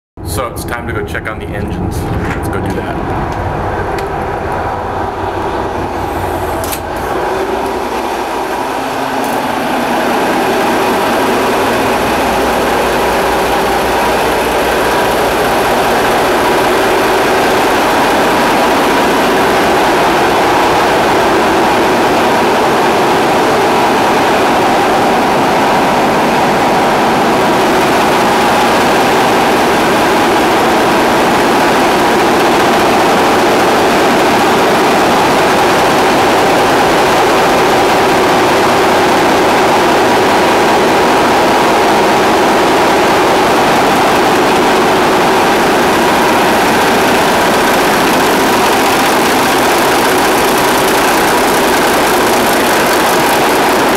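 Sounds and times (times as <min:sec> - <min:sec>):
diesel engines running: 0:00.2 - 0:53.9.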